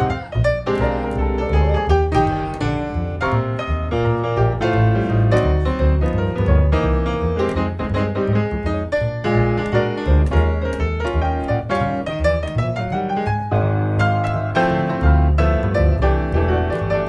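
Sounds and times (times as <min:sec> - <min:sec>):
double bass line: 0:00.0 - 0:17.0
jazz piano: 0:00.0 - 0:17.0.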